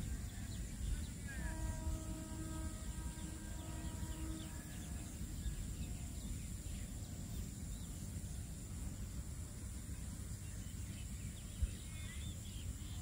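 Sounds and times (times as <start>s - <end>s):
faint steady tone: 0.0s - 13.0s
low background rumble: 0.0s - 13.0s.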